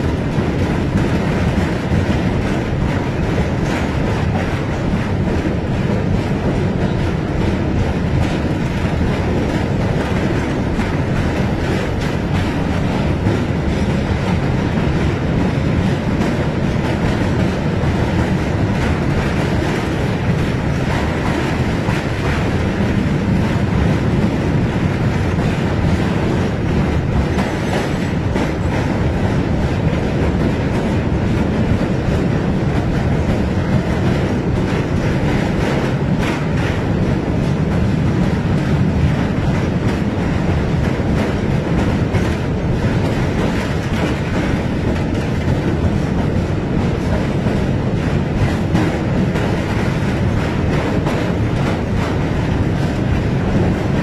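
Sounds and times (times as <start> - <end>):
rail joints clickety-clack: 0.0 - 54.0
train wheels rumbling on rail: 0.0 - 54.0.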